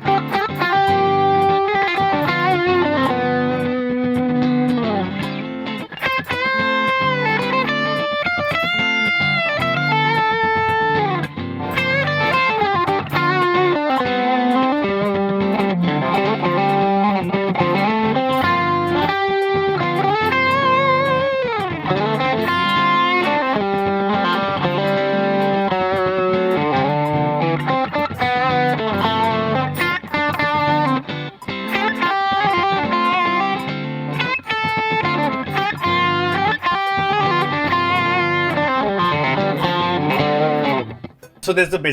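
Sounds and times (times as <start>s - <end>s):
electric guitar lead line: 0.0s - 41.9s.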